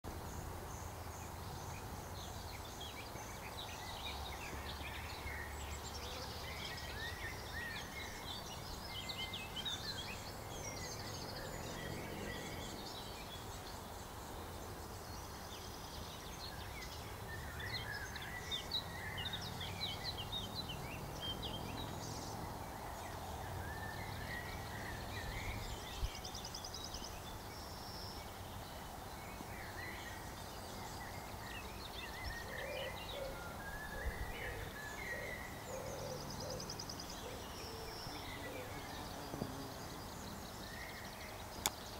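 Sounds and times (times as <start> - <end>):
steady outdoor hiss: 0.0 - 41.9.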